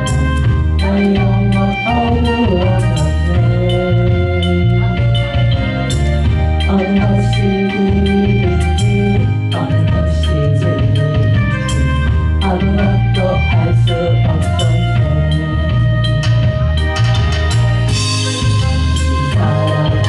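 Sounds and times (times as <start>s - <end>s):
gospel instrumental music: 0.0s - 20.0s
percussion beat: 0.0s - 20.0s.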